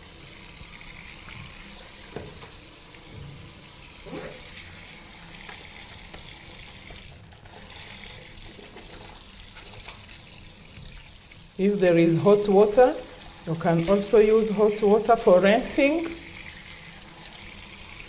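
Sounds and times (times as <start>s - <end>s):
tap water running into basin: 0.0s - 18.0s.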